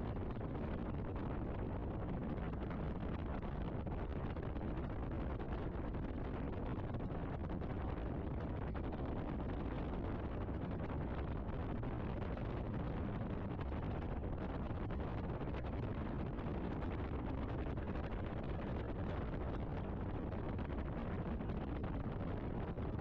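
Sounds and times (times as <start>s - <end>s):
car tyre and wind noise: 0.0s - 23.0s.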